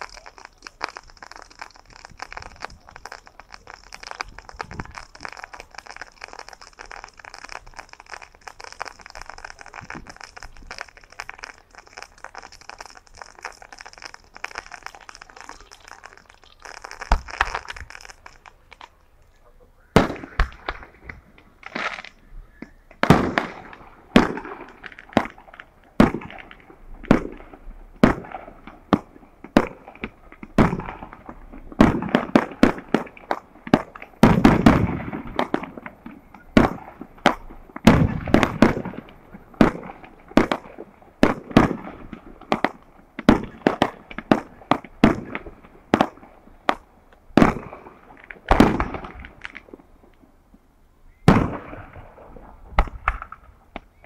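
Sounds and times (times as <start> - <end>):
fireworks booming with echo: 0.0 - 19.0, 19.9 - 50.3, 51.2 - 54.0
fireworks crackling: 0.0 - 54.0.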